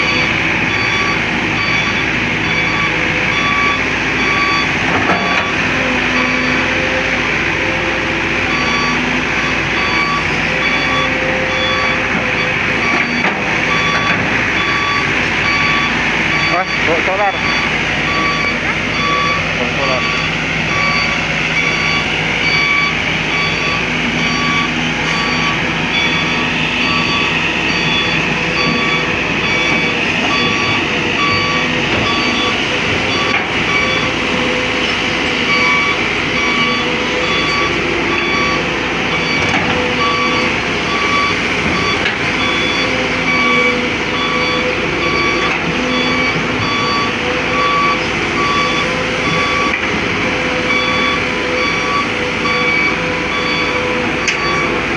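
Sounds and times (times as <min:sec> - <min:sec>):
diesel engine running: 0:00.0 - 0:54.9
excavator warning alarm beeping: 0:00.0 - 0:54.9.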